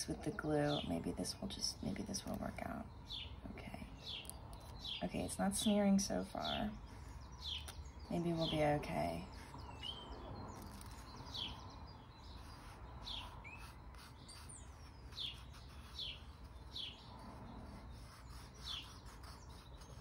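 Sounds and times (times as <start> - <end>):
bird chirping faintly: 0.0 - 20.0
low steady hum: 0.0 - 20.0.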